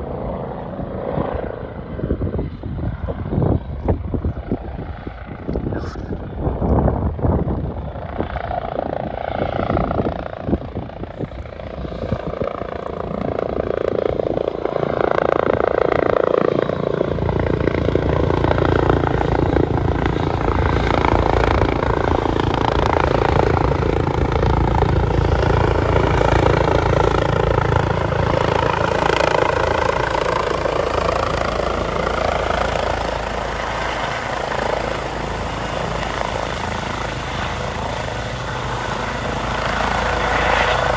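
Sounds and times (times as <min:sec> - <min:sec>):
helicopter rotor and turbine: 0:00.0 - 0:40.9.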